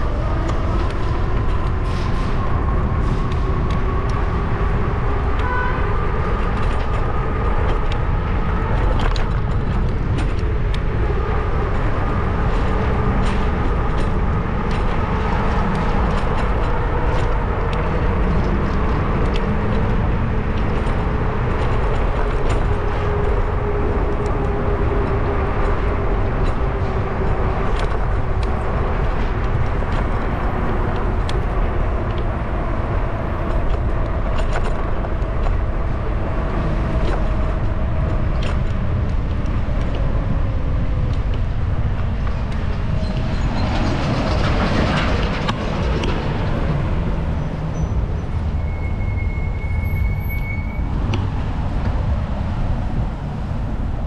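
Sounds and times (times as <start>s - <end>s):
road rumble: 0.0s - 54.0s
wind on microphone: 0.0s - 54.0s.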